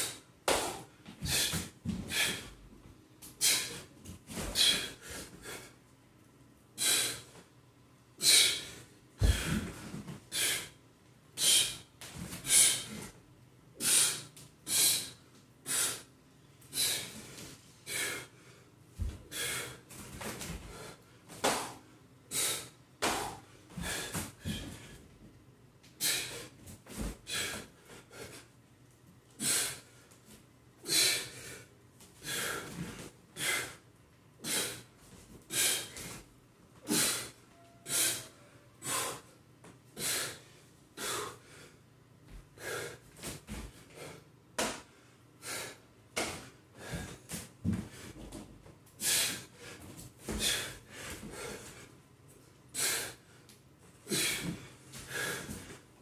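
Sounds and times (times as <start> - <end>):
man breathing hard: 0.0 - 2.6, 3.4 - 5.8, 6.8 - 7.4, 8.2 - 10.8, 11.4 - 13.2, 13.8 - 16.1, 16.7 - 25.1, 26.0 - 28.5, 29.4 - 30.0, 30.8 - 36.2, 36.8 - 39.4, 40.0 - 41.8, 42.4 - 48.4, 49.0 - 52.0, 52.7 - 55.9.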